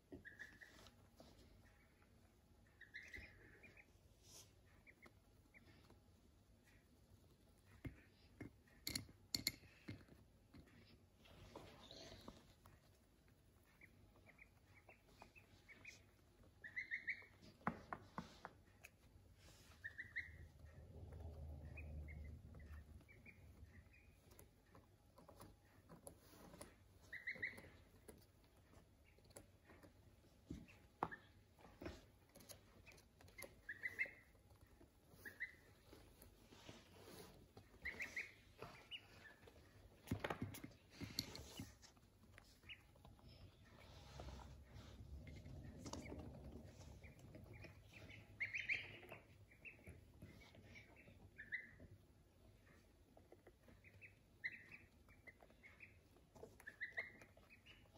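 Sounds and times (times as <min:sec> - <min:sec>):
ducklings peeping: 0:00.0 - 0:09.1, 0:10.7 - 0:57.9
beaks pecking on windowsill: 0:00.0 - 0:57.9.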